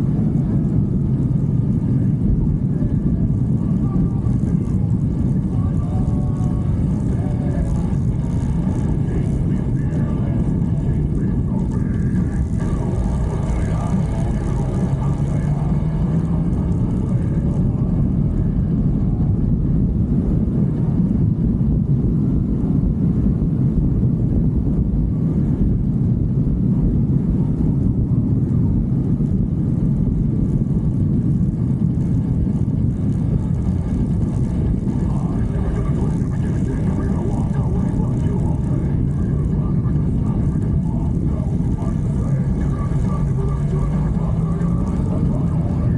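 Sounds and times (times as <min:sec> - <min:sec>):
motorcycle engine drone: 0:00.0 - 0:45.9
wind rush on microphone: 0:00.0 - 0:45.9.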